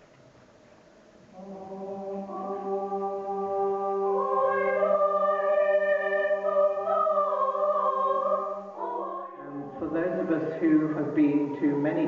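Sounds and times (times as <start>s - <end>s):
choir singing held chords: 1.2s - 12.0s.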